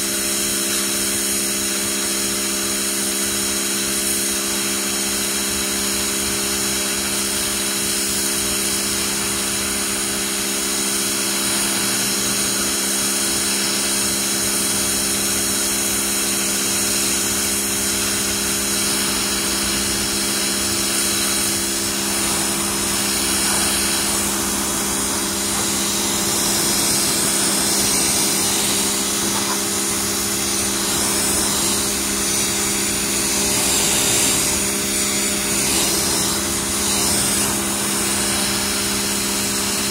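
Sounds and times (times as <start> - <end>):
pressure washer motor hum: 0.0 - 39.9
water jet spraying onto concrete: 0.0 - 39.9.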